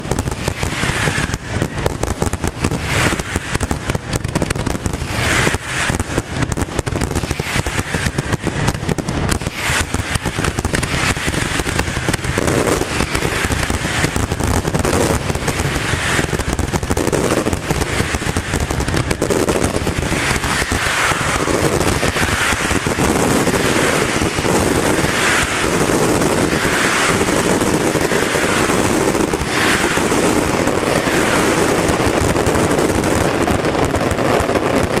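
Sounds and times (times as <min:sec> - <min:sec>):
firework bangs and crackle: 0:00.0 - 0:35.0.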